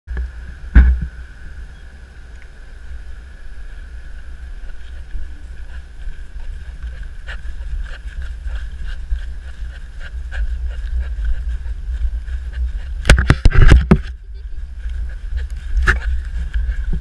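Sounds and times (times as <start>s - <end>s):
wind and handling rumble: 0.1s - 17.0s.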